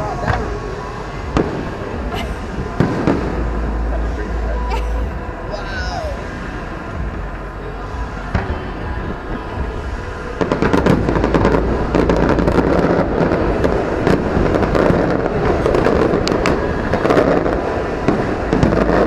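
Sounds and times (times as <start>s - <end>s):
fireworks bursting and crackling: 0.0s - 19.0s.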